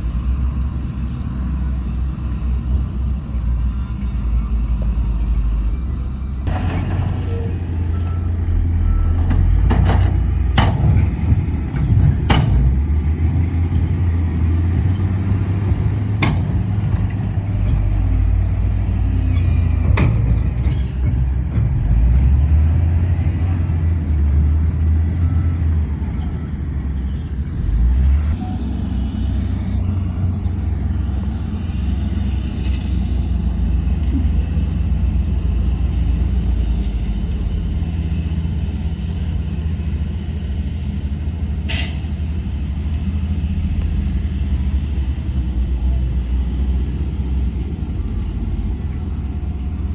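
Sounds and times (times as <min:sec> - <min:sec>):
diesel machinery rumbling: 0:00.0 - 0:49.9.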